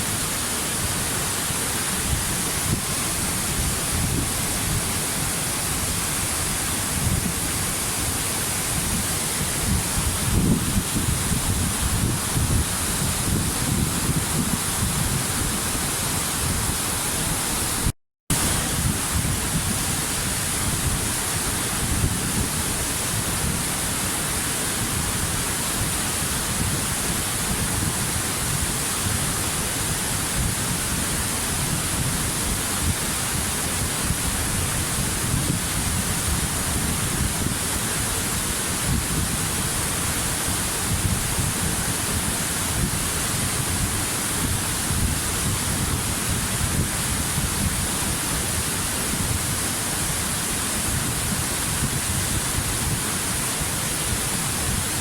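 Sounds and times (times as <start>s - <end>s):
waterfall roar: 0.0s - 55.0s.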